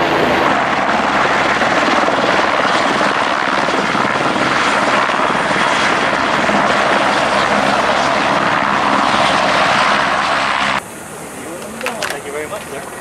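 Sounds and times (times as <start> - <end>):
helicopter turbine and rotor drone: 0.0 - 13.0.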